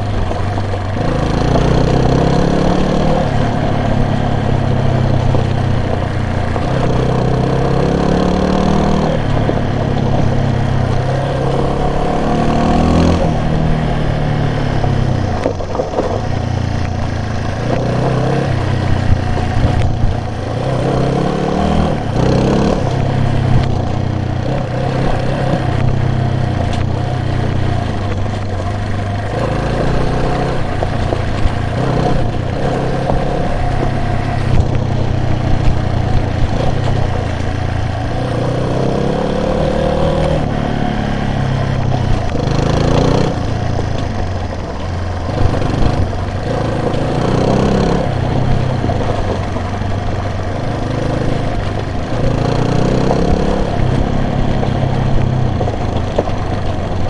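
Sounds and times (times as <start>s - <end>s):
road noise: 0.0s - 57.0s
vehicle engine running: 0.0s - 57.0s.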